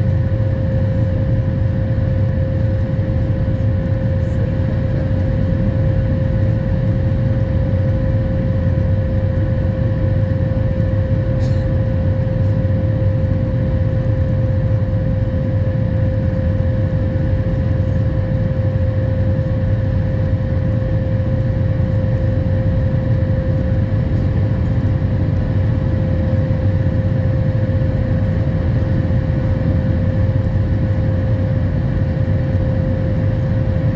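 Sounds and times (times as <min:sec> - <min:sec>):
airplane cabin engine rumble: 0:00.0 - 0:33.9
constant hum-like tone: 0:00.0 - 0:33.9.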